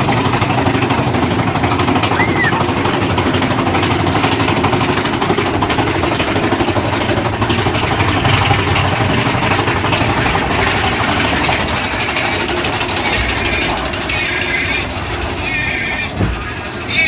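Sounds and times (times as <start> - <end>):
roller coaster rumbling on track: 0.0 - 17.0.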